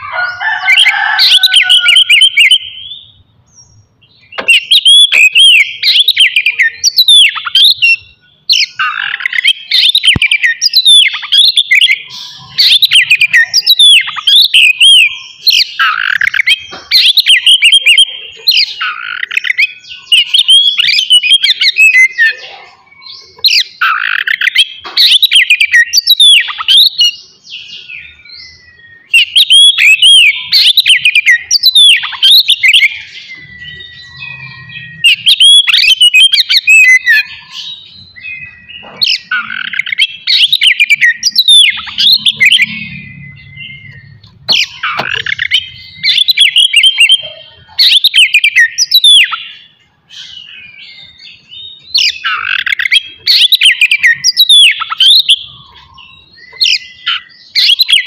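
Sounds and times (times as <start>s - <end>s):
bird singing whistled phrases: 4.2s - 58.0s.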